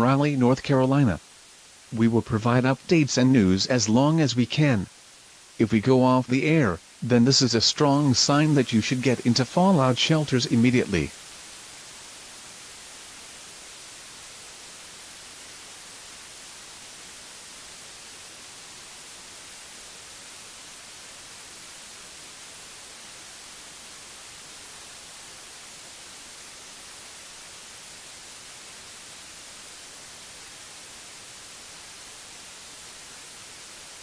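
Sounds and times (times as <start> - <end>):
static hiss: 0.0 - 34.0.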